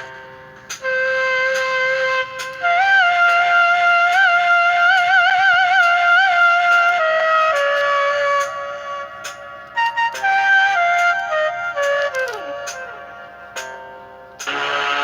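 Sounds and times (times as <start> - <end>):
keyboard flute melody: 0.0 - 15.0.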